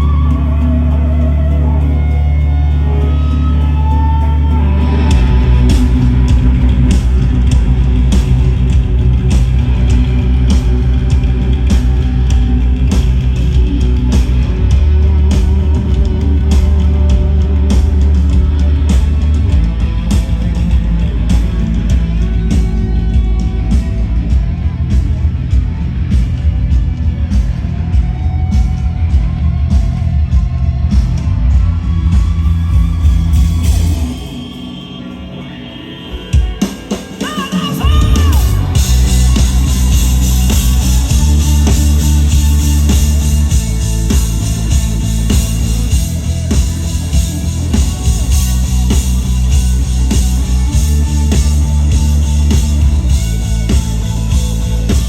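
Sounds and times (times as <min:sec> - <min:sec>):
live pop-rock band: 0:00.0 - 0:55.0
drum kit beat: 0:04.8 - 0:34.4, 0:36.4 - 0:55.0.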